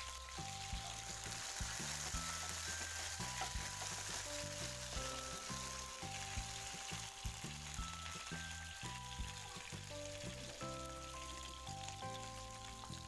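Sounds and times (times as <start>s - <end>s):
background music: 0.0s - 13.0s
chilies and garlic sizzling in oil: 0.0s - 13.0s.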